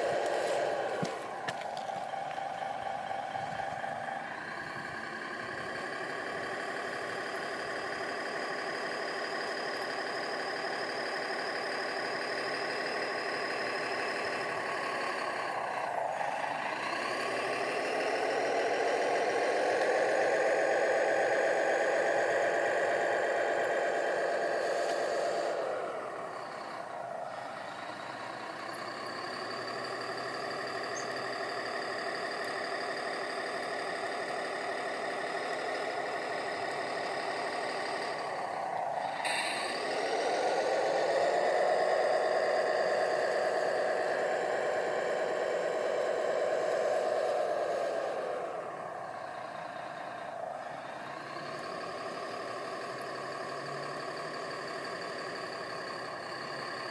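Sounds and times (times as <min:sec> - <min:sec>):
model bulldozer motor drone: 0:00.0 - 0:56.9.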